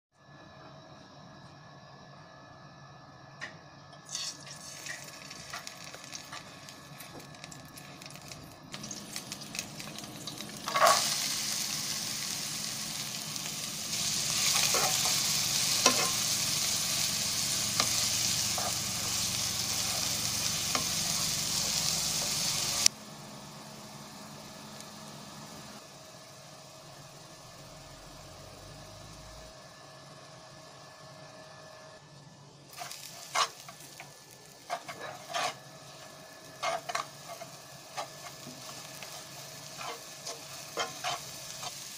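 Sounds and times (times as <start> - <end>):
onions sizzling in hot oil: 4.0 - 29.4, 32.7 - 41.9.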